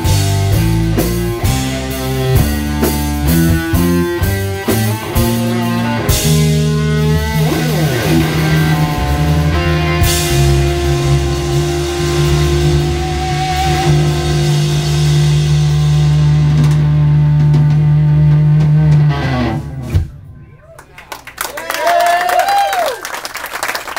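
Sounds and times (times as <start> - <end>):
electric guitar: 0.0 - 20.4
bass guitar: 0.0 - 20.7
drums: 0.0 - 21.3.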